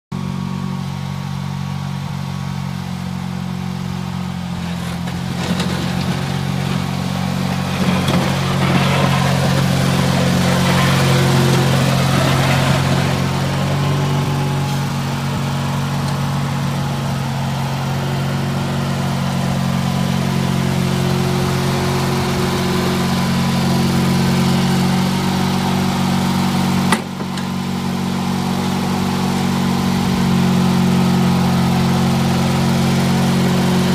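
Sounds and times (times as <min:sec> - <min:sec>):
garden tractor engine running: 0:00.1 - 0:33.9
plow pushing snow: 0:00.2 - 0:33.9.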